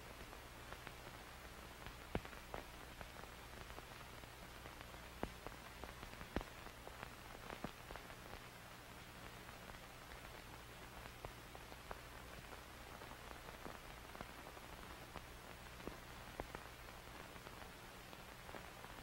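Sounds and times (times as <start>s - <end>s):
faint steady hiss: 0.0s - 19.0s
soft clicks and crackles: 0.0s - 19.0s.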